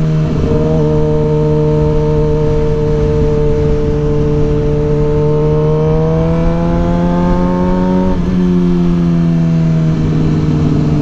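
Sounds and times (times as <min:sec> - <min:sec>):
motorcycle engine pulling: 0:00.0 - 0:11.0
wind noise: 0:00.0 - 0:11.0.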